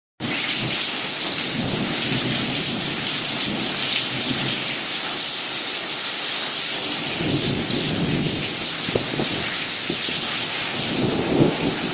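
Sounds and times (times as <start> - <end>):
heavy rain on a porch: 0.2 - 11.9.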